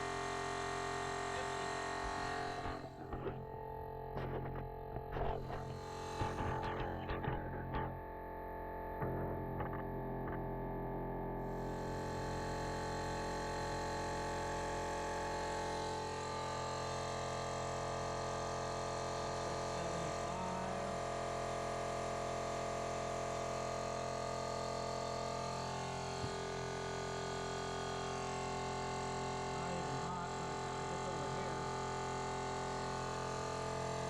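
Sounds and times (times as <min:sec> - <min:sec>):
air compressor motor humming: 0:00.0 - 0:10.5, 0:11.4 - 0:34.0.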